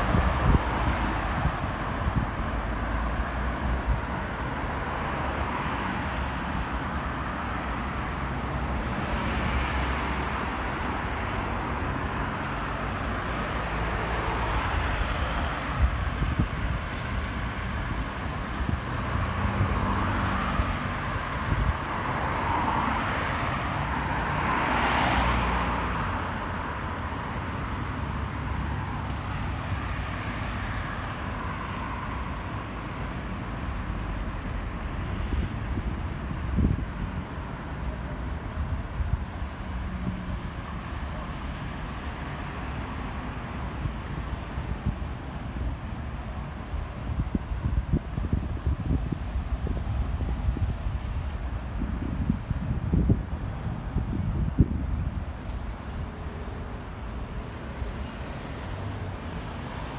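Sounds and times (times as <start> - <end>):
cars passing: 0.0 - 59.9
road traffic rumble: 0.0 - 59.9.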